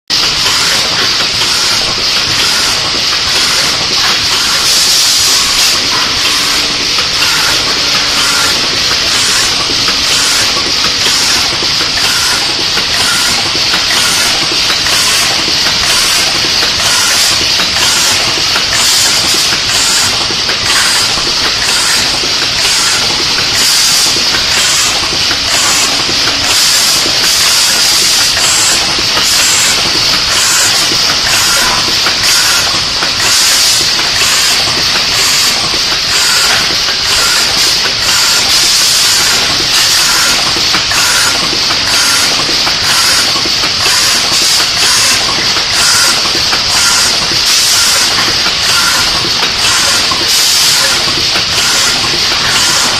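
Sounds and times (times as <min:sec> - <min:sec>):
sealing machine hissing: 0:00.1 - 0:52.9.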